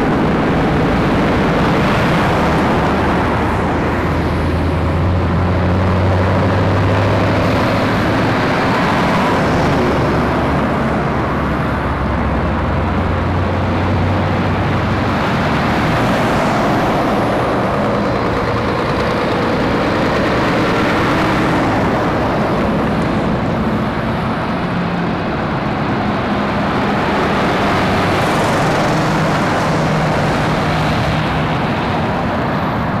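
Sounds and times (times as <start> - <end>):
lorry diesel engines: 0.0 - 33.0
tyre and road noise: 0.0 - 33.0.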